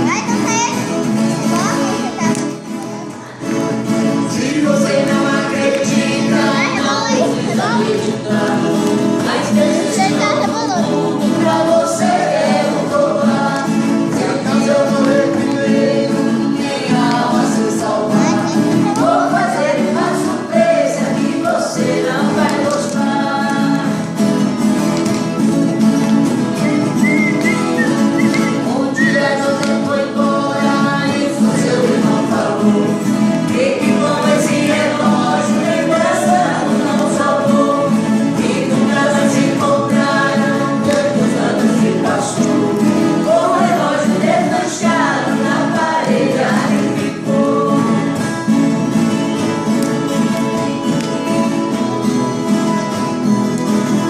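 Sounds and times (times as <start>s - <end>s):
strummed guitar: 0.0s - 54.0s
voices singing together: 3.0s - 54.0s.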